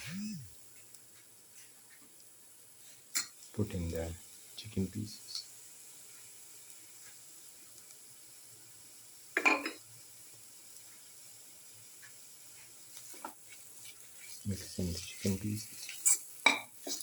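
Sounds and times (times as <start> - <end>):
chicken sizzling in hot pan: 0.6 - 17.0
loud sizzle burst: 2.5 - 17.0.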